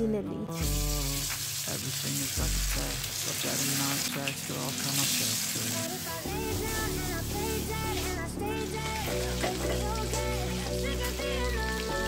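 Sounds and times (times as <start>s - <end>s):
fish frying in hot oil: 0.6s - 6.2s, 7.3s - 12.0s.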